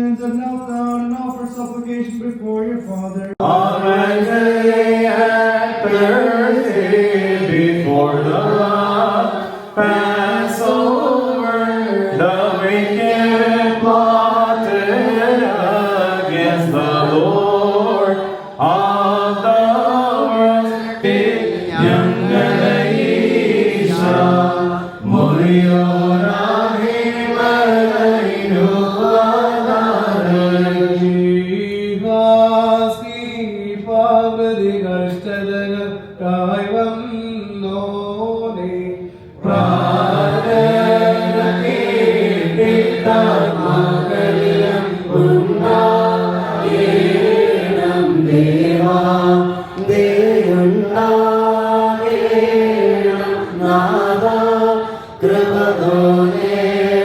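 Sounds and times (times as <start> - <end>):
voices chanting a hymn: 3.3 - 34.7, 35.4 - 57.0.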